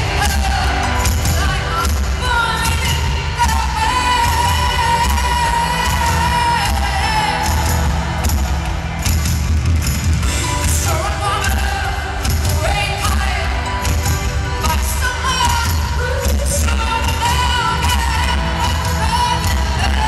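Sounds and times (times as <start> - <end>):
woman singing: 0.0 - 8.2, 10.6 - 20.0
bass: 0.0 - 20.0.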